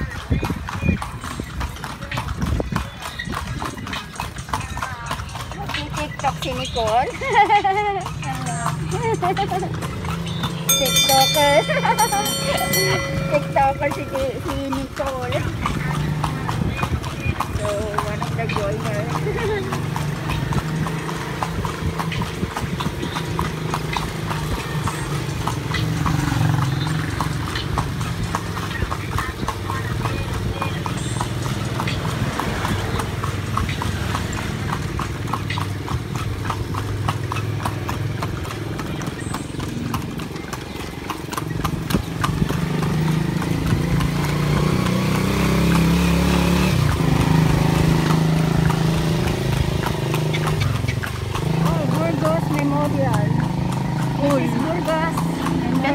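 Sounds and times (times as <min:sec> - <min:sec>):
horse hooves clip-clopping on pavement: 0:00.0 - 0:55.9
vehicle engine running: 0:05.3 - 0:55.9.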